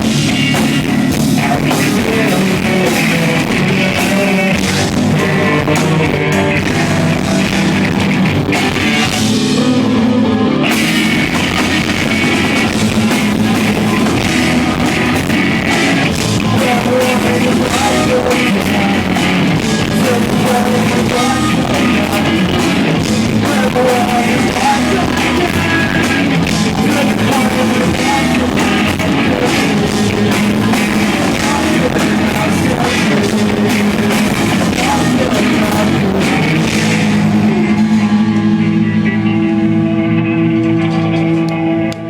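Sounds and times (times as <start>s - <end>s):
drums: 0.0s - 42.0s
electric guitars: 0.0s - 42.0s
person singing: 0.0s - 42.0s.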